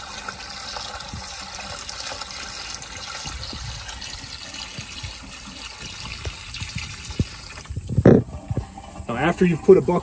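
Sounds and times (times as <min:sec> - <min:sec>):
water pouring and splashing: 0:00.0 - 0:10.0.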